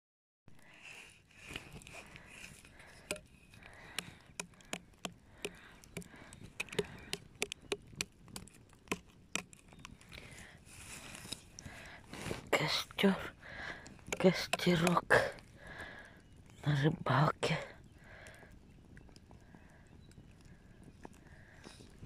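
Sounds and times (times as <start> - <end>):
campfire crackling and popping: 0.6 - 22.0.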